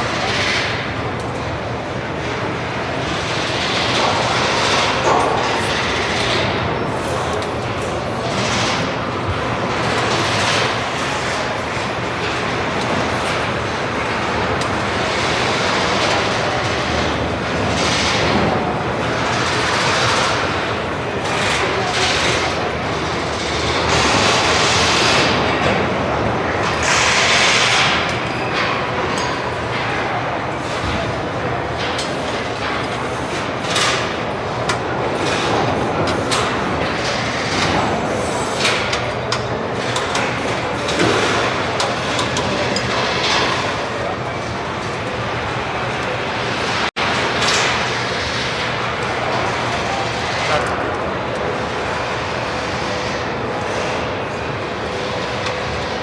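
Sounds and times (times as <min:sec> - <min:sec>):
loud factory machinery: 0:00.0 - 0:56.0.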